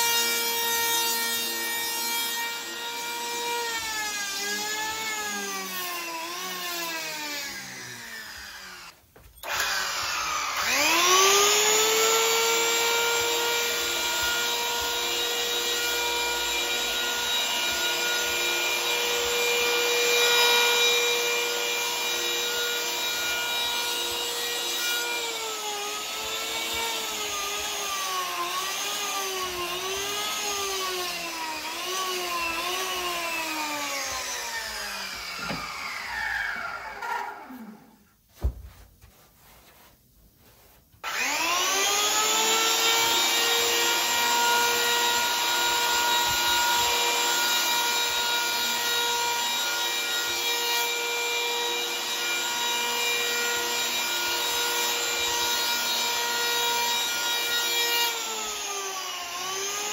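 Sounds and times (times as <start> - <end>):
electric hand planer whining: 0.0 - 38.0, 41.0 - 59.9.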